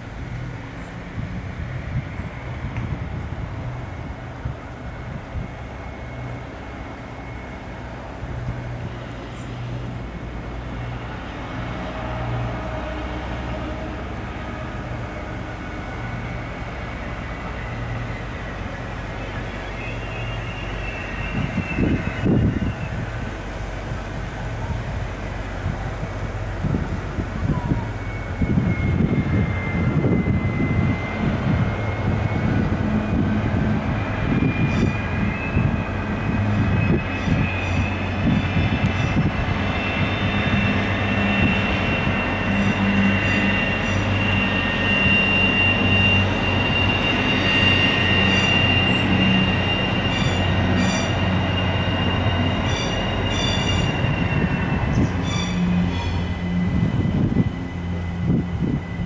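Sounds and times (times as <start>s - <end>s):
train wheels squealing: 4.8s - 10.0s, 11.0s - 23.5s, 27.4s - 59.0s.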